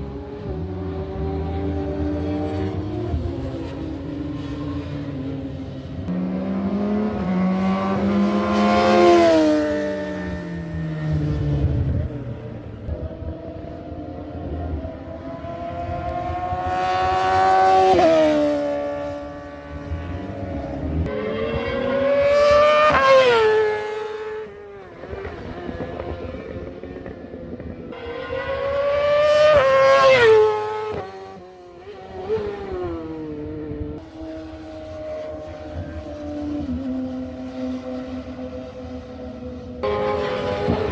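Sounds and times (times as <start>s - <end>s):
motorcycle engine passing at speed: 0.0s - 40.9s.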